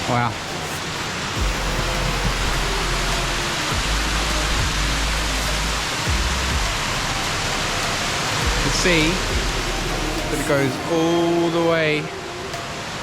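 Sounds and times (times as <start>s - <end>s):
faint music: 0.0s - 13.0s
waterfall rushing: 0.0s - 13.0s.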